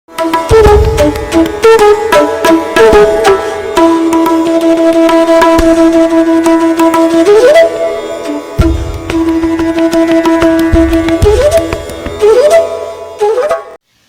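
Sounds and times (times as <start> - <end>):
plucked string instrument: 0.1 - 13.8
tabla strokes: 0.1 - 14.0
held sliding melody note: 0.2 - 13.8.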